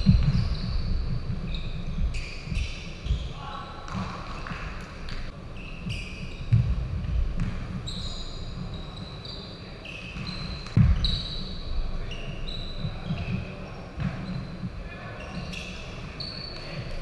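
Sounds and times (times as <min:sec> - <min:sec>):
sneakers squeaking on floor: 0:00.0 - 0:17.0.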